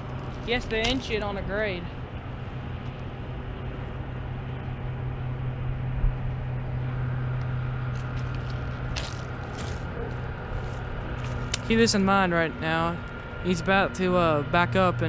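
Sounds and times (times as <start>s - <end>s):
diesel locomotive droning: 0.0s - 15.0s.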